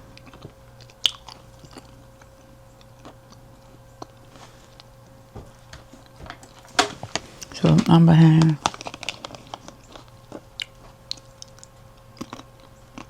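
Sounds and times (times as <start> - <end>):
faint steady hum: 0.0 - 13.0
person chewing fruit: 0.0 - 13.0.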